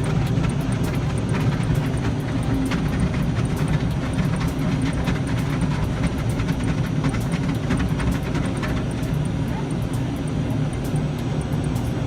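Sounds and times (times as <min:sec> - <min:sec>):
car wash machine rumble: 0:00.0 - 0:12.0.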